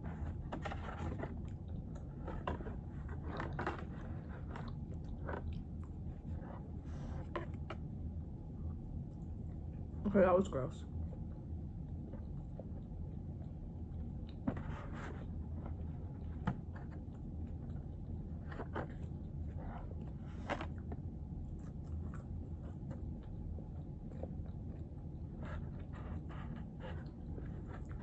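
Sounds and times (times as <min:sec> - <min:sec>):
low room hum: 0:00.0 - 0:28.0
person chewing food: 0:00.1 - 0:09.9, 0:11.0 - 0:28.0.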